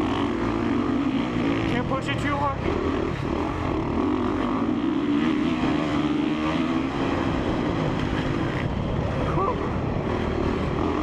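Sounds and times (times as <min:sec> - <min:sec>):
motocross engine revving: 0:00.0 - 0:09.2
wind: 0:00.0 - 0:11.0.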